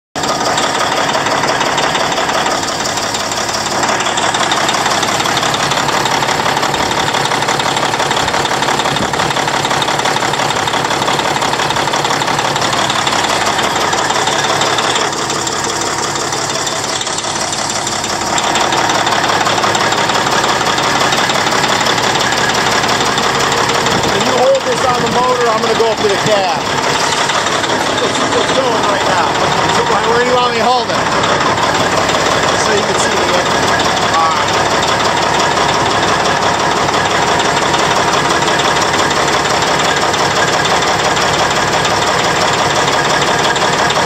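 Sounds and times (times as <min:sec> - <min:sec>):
diesel engine running: 0:00.2 - 0:44.0.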